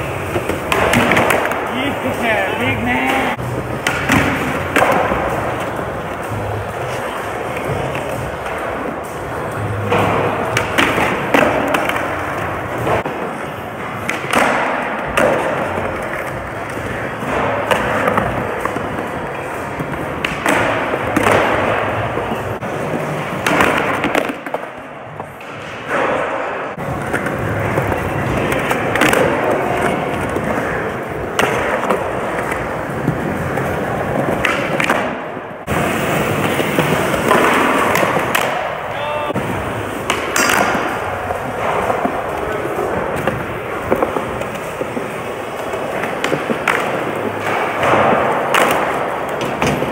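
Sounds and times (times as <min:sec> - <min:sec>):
skateboard clacks: 0:00.0 - 0:49.9
skateboard wheels rolling: 0:00.0 - 0:49.9.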